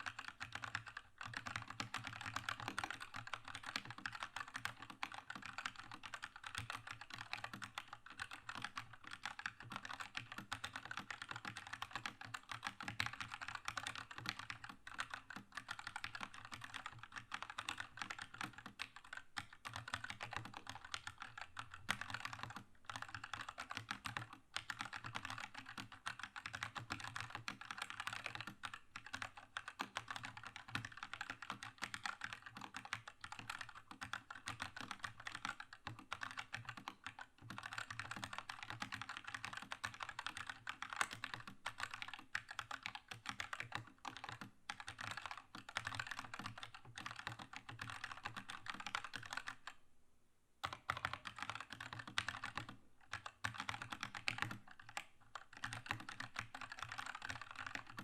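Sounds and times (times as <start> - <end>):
fast typing on mechanical keyboard: 0.0 - 49.8, 50.6 - 58.0.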